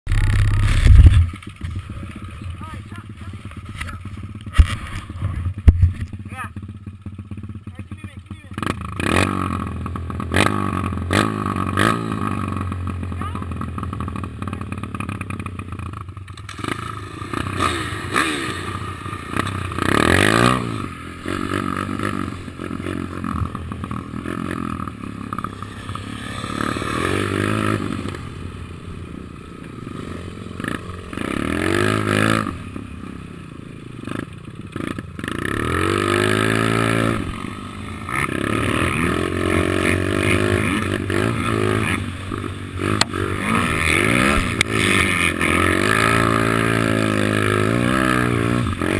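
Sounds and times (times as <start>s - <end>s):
small motorcycle engine revving: 0.1s - 48.9s.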